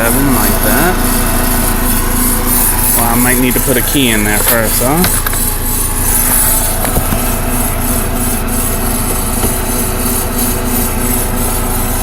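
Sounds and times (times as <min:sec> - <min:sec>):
key-cutting machine motor humming: 0:00.0 - 0:12.0.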